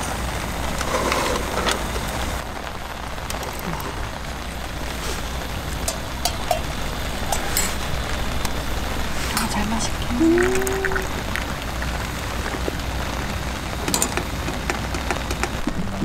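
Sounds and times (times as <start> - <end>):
low steady hum: 0.0 - 16.0
rain falling: 0.0 - 16.0
sharp ticks of raindrops: 0.0 - 16.0.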